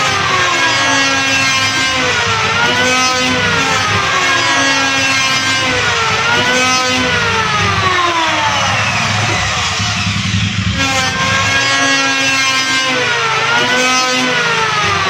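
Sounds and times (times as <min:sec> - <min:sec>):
electric wood planer motor whine: 0:00.0 - 0:15.0.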